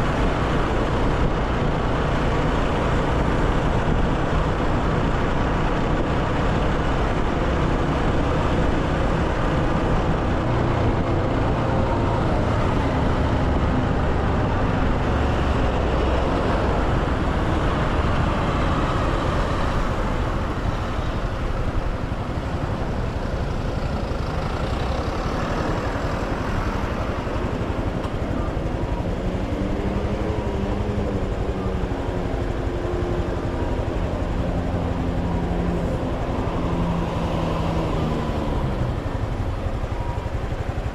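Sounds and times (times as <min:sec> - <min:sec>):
motorcycle engine running: 0:00.0 - 0:40.9
road noise: 0:00.0 - 0:40.9.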